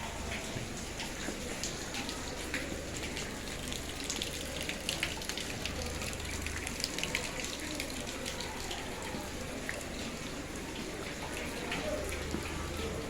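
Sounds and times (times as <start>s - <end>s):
drips and splashes: 0.0s - 13.0s.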